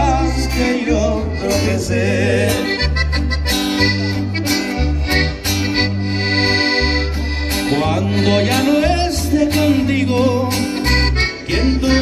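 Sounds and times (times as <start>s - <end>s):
accordion melody: 0.0s - 12.0s
bass line: 0.0s - 12.0s.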